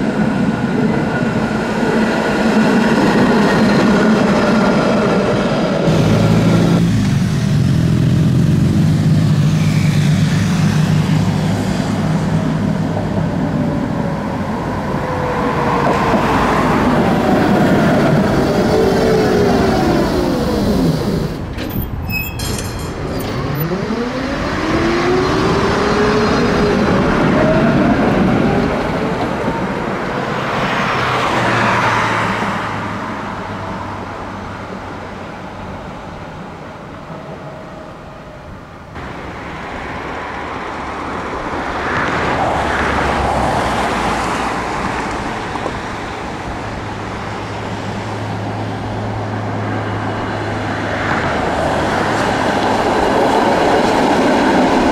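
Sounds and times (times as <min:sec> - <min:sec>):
street traffic passing: 0:00.0 - 0:54.9.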